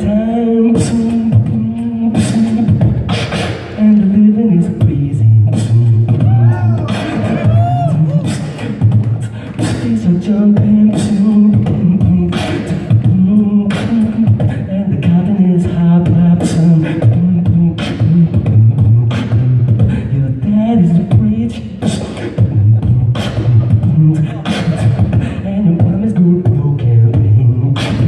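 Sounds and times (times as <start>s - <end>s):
beatboxing into a microphone: 0.0s - 28.0s.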